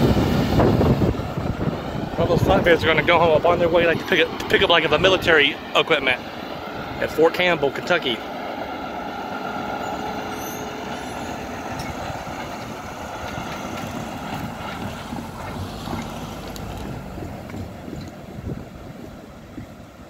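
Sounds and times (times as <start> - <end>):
freight train rumble and hiss: 0.0 - 20.0.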